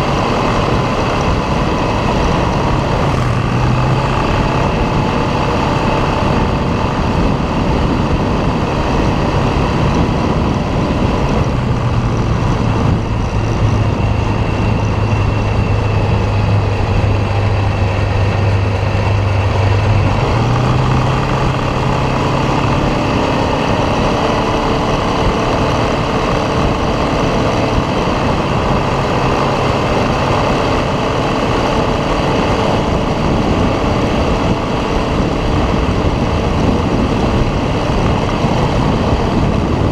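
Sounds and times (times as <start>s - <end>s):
atv engine running: 0.0s - 39.9s
dense rushing noise: 0.0s - 39.9s.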